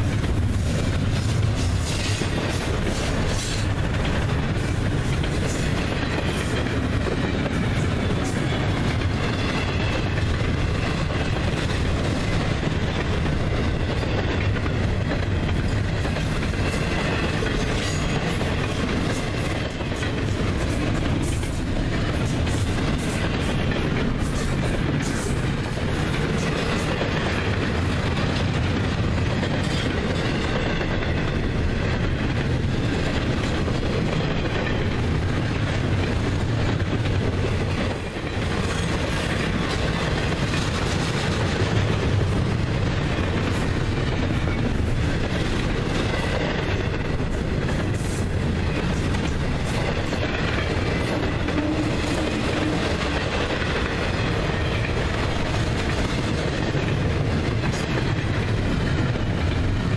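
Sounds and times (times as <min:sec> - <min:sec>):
freight train passing: 0:00.0 - 0:59.9
wheels clacking on rails: 0:00.0 - 0:59.9.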